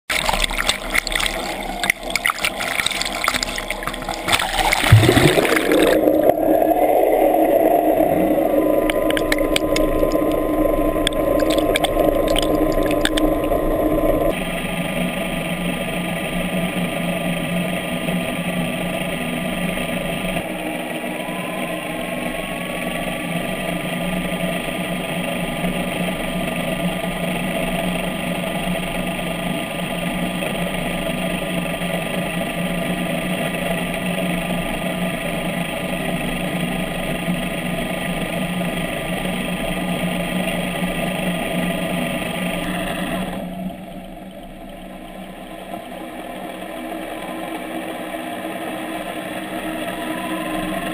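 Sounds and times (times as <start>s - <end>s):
underwater motor and propeller hum: 0.0s - 50.9s.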